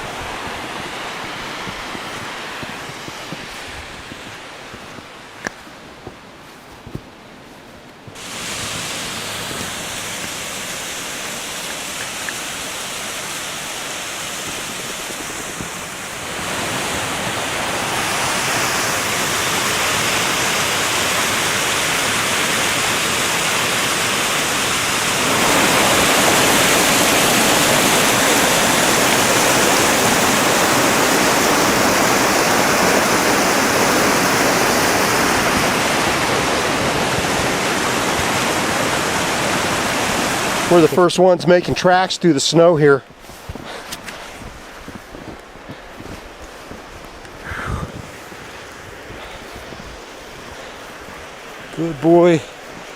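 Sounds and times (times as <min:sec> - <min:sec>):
waterfall rushing: 0:00.0 - 0:05.9, 0:08.1 - 0:43.0, 0:47.1 - 0:52.9.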